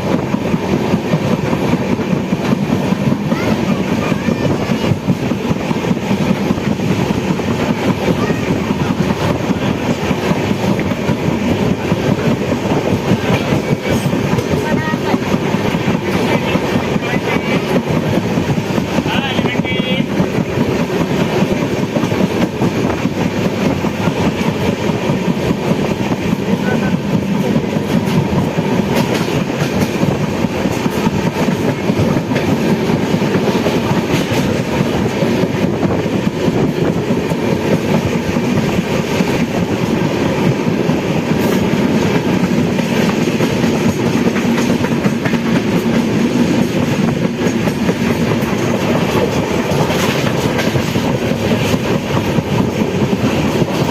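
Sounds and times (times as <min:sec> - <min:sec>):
train wheels clattering over rails: 0:00.0 - 0:53.9.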